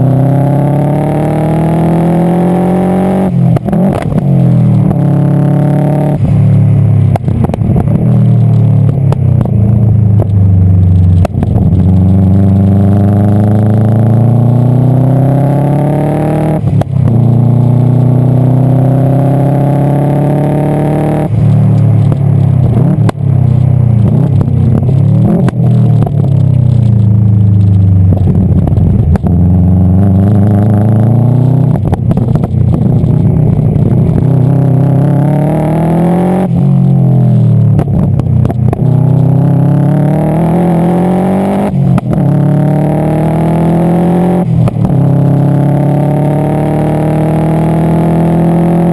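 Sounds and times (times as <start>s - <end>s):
car engine revving through gears: 0.0s - 6.4s, 7.1s - 48.9s
exhaust cracks: 3.1s - 14.8s, 16.5s - 18.4s, 20.8s - 47.4s.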